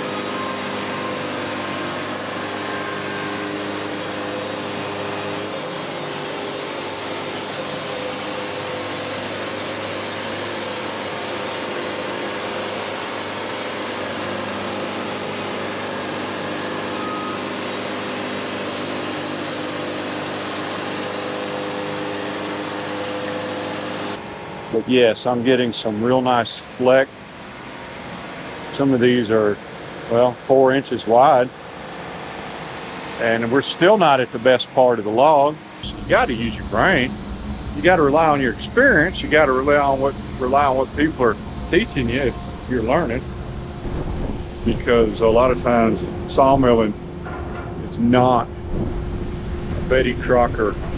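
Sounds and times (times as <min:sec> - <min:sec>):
bandsaw mill cutting wood: 0:00.0 - 0:43.4.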